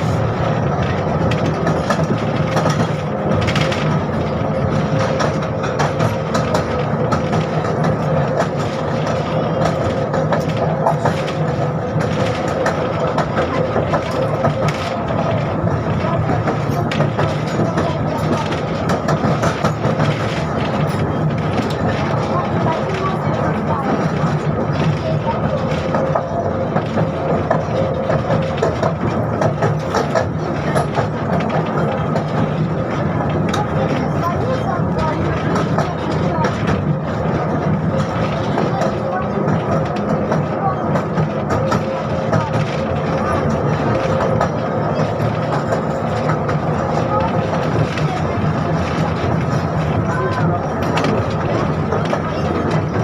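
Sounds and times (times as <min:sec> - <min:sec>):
tram interior hum: 0:00.0 - 0:53.0.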